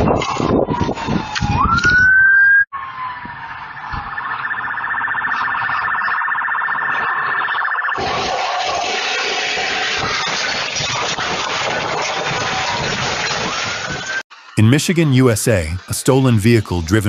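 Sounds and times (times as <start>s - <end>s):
emergency vehicle siren: 0.0s - 14.2s.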